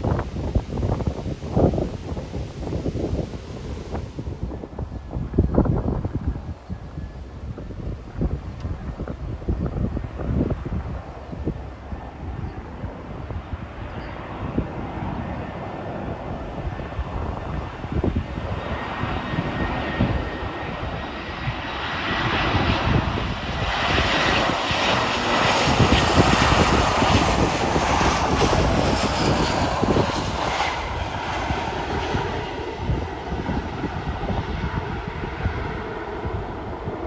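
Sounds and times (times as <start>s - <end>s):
jet engines rushing: 0.0s - 37.0s
wind buffeting microphone: 0.0s - 37.0s.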